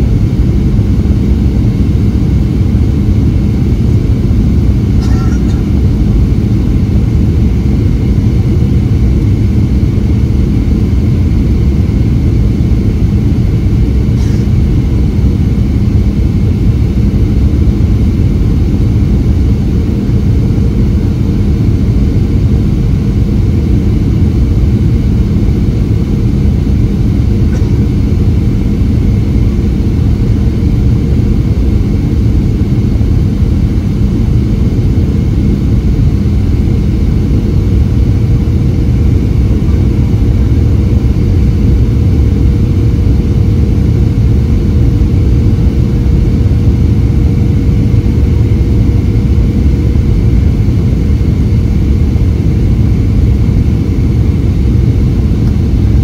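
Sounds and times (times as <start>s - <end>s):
airliner cabin rumble: 0.0s - 56.0s
steady low hum: 0.0s - 56.0s.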